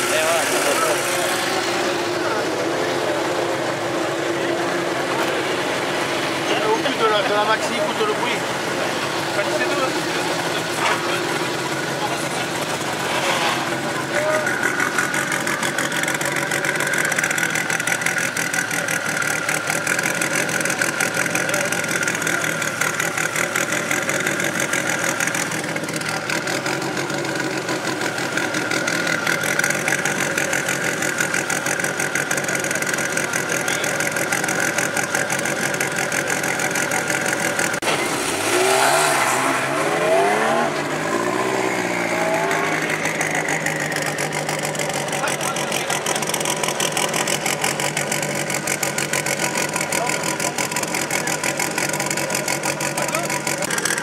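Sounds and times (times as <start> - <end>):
high turbo whine: 0.0 - 54.0
rally car engine idling and revving: 0.0 - 54.0.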